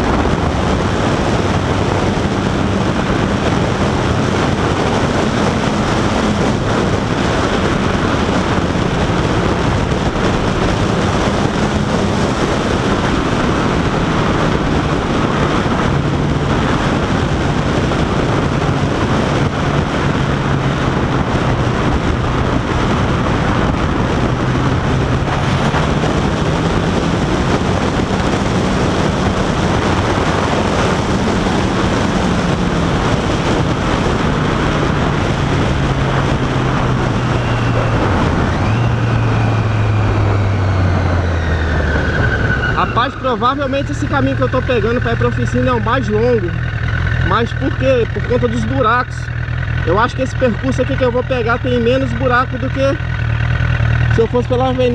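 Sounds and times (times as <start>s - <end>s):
motorcycle engine running: 0.0s - 54.9s
wind rush on microphone: 0.0s - 54.9s.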